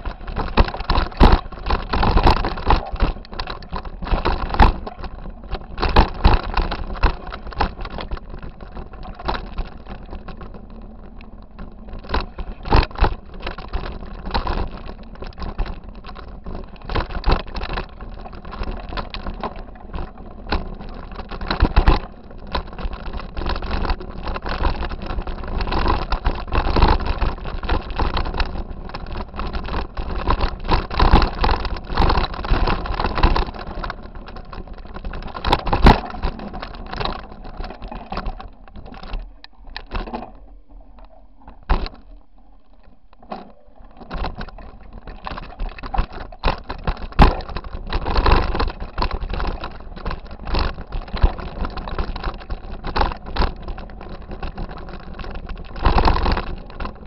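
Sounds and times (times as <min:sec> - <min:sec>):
bike jolts and rattles: 0:00.0 - 0:42.2, 0:43.2 - 0:57.0
bike rumbling on rocky trail: 0:00.0 - 0:57.0.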